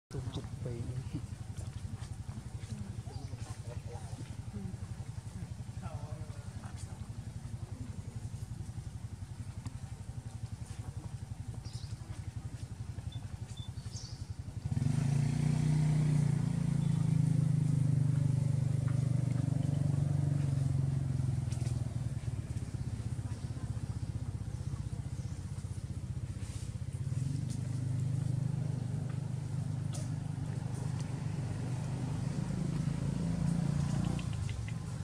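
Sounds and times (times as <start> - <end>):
small engine chugging: 0.1 - 35.0.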